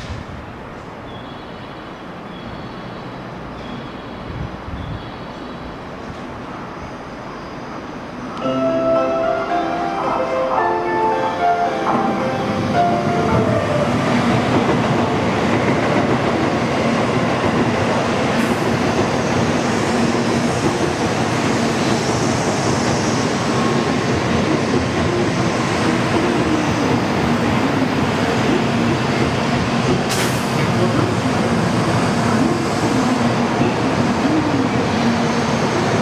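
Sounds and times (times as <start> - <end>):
train rushing past: 0.0 - 1.2, 2.8 - 36.0.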